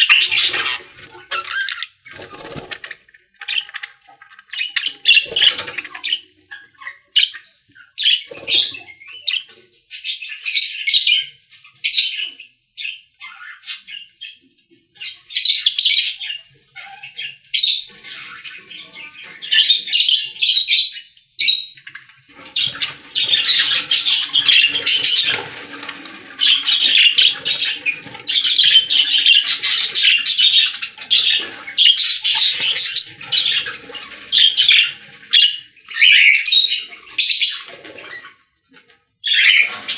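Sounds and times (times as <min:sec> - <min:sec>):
baby birds squawking and chirping: 0:00.0 - 0:38.5, 0:39.2 - 0:39.9.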